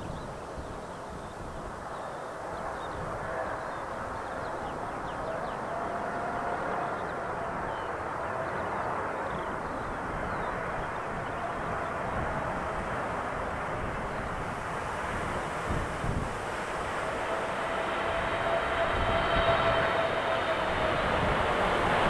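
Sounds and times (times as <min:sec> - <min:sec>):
jet engines rushing with whine: 0:00.0 - 0:22.0.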